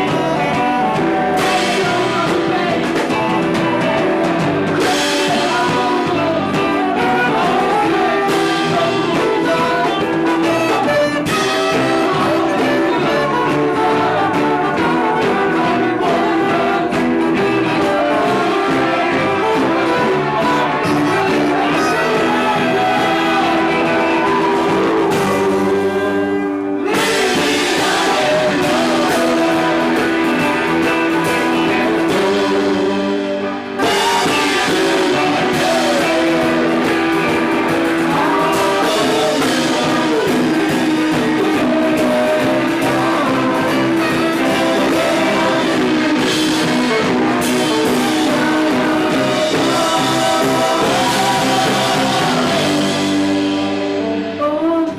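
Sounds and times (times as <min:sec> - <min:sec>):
live band playing: 0:00.0 - 0:54.9
person singing: 0:00.0 - 0:54.9.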